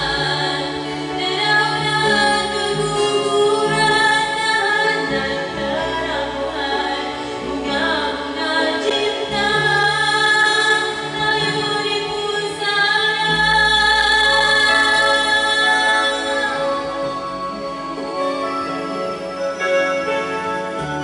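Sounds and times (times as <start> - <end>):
woman singing karaoke: 0.0 - 18.9
backing track music: 0.0 - 21.0.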